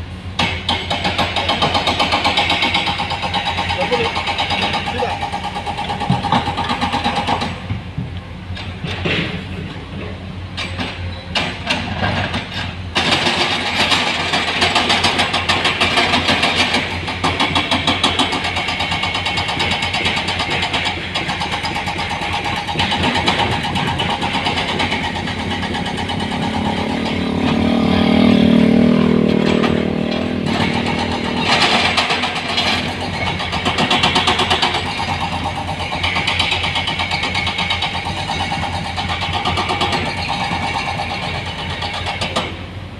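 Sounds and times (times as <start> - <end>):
heavy diesel machinery running: 0.0 - 42.9.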